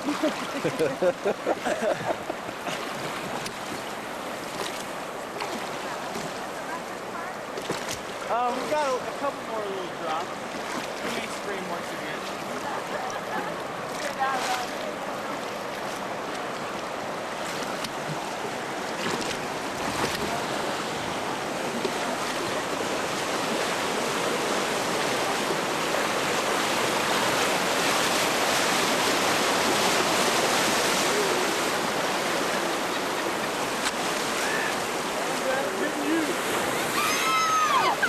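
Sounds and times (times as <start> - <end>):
river rapids rushing: 0.0 - 38.0.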